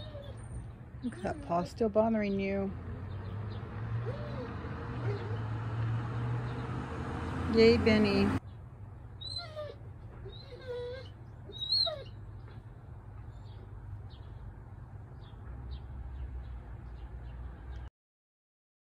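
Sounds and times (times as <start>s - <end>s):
low outdoor rumble: 0.0s - 17.8s.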